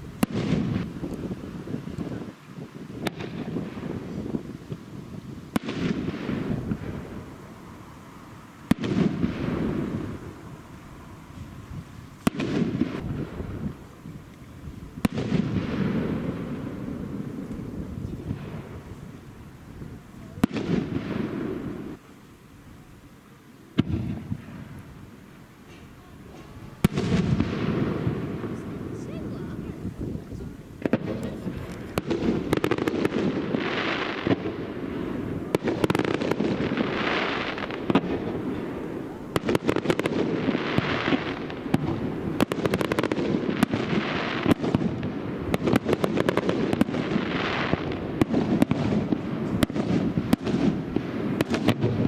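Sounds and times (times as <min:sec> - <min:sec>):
wind buffeting microphone: 0:00.0 - 0:22.0, 0:25.8 - 0:52.0
faint crackles: 0:00.0 - 0:52.0
firework rumble: 0:00.0 - 0:52.0.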